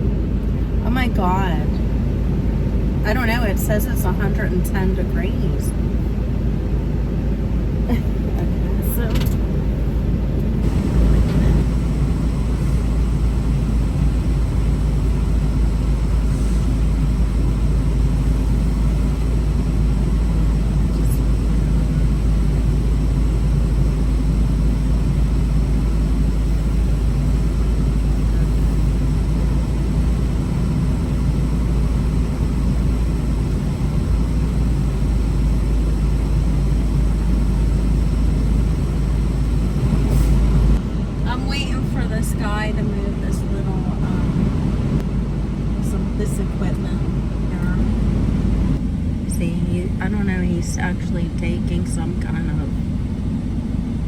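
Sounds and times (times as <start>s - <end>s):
truck engine rumble inside cab: 0.0s - 54.0s.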